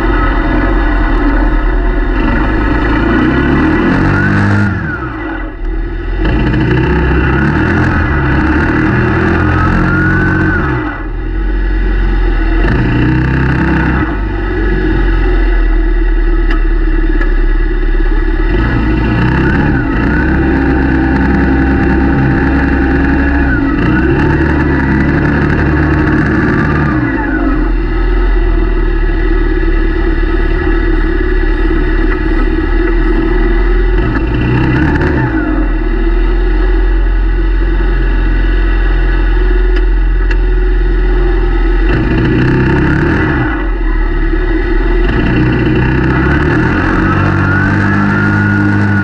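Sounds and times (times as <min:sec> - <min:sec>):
quad engine revving: 0:00.0 - 0:49.0.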